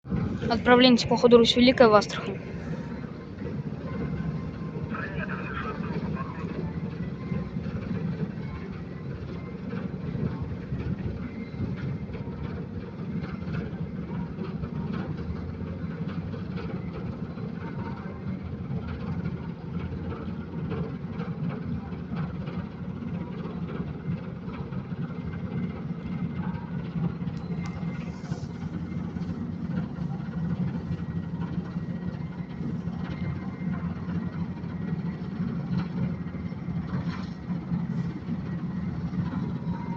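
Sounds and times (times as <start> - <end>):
ship engines low rumble: 0.0 - 39.9.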